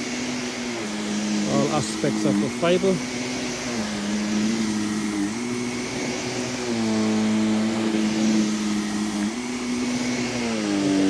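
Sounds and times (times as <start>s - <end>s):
vacuum cleaner running over rug: 0.0s - 11.0s.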